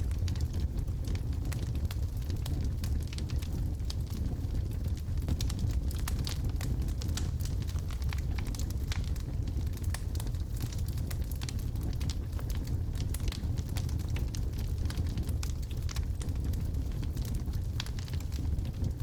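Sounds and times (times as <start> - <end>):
logs crackling in a fireplace: 0.0 - 19.0.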